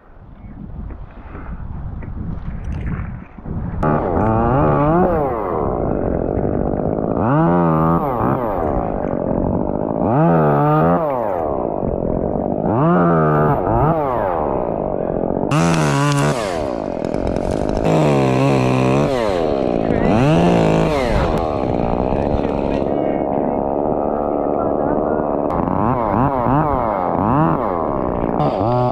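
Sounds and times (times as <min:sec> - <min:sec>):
chainsaw revving: 0:03.8 - 0:28.9.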